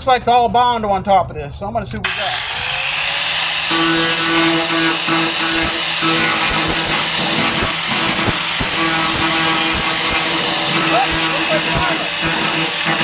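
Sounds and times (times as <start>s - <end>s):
angle grinder whining: 2.0s - 13.0s.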